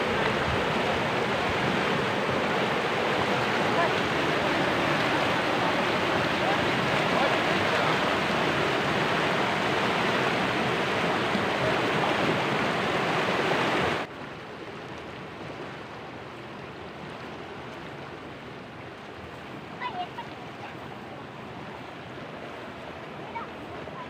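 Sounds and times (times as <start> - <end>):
floodwater rushing through culvert: 0.0 - 24.0.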